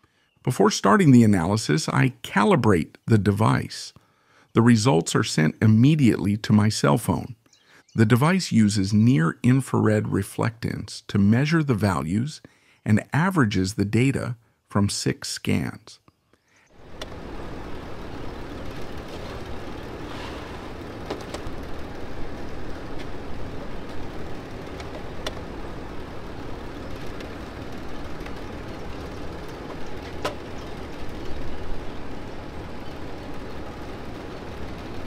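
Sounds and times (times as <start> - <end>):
outdoor background noise: 0.0 - 35.0.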